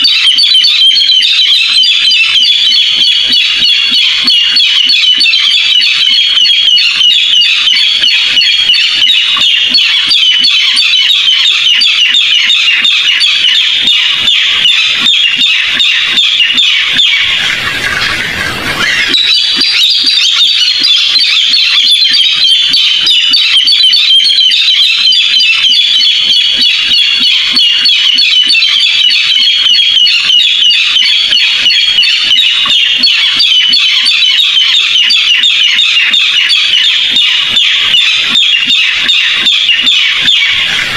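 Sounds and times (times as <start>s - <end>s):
bird calling harsh rapid notes: 0.0s - 40.9s.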